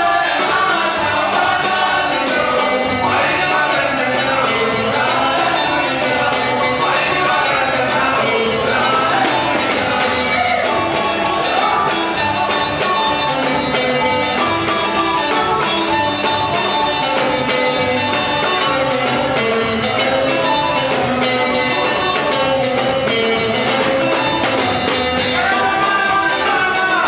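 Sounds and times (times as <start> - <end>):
dance music: 0.0 - 27.0.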